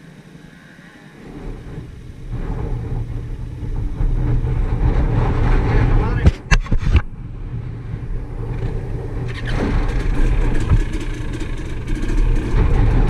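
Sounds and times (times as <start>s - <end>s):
off-road vehicle engine rumbling: 0.0s - 13.0s.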